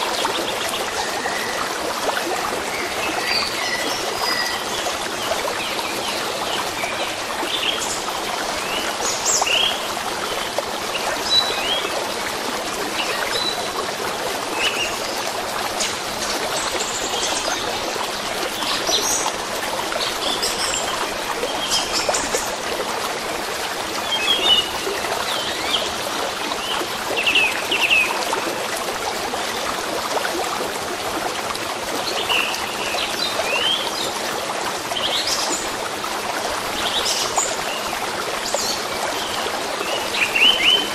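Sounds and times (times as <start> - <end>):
small stream running: 0.0 - 40.9.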